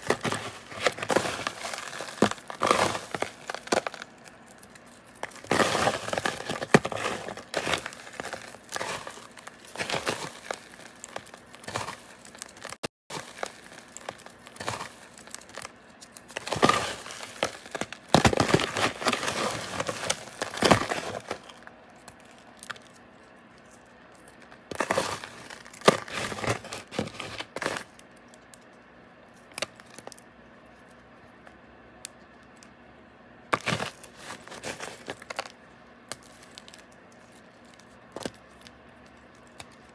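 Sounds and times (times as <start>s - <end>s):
moth bars crunching by hand: 0.0s - 28.6s, 29.4s - 30.3s, 33.5s - 39.9s.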